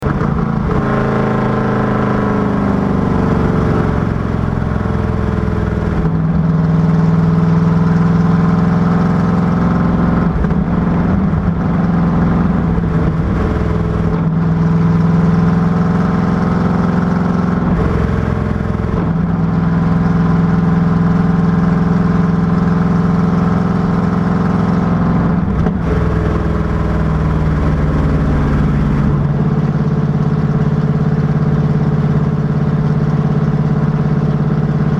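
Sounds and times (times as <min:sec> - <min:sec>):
car engine running hard: 0:00.0 - 0:34.9.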